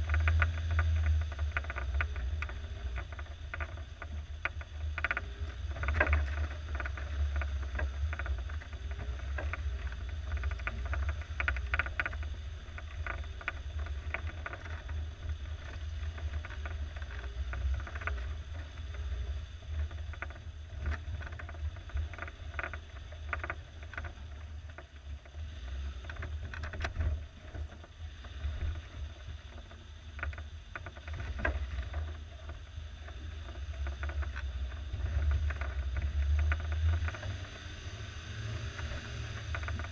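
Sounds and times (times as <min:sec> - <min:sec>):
car engine running low: 0:00.0 - 0:39.9.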